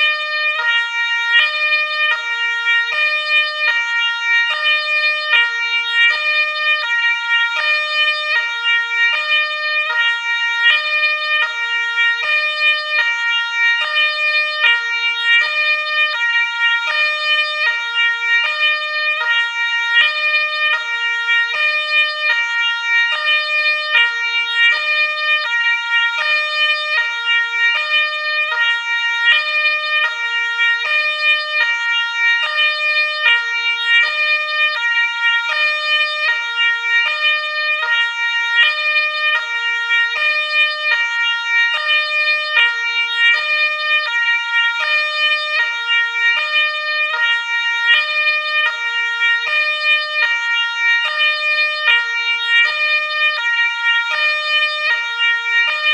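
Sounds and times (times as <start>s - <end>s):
two-tone ambulance siren: 0.0s - 55.9s.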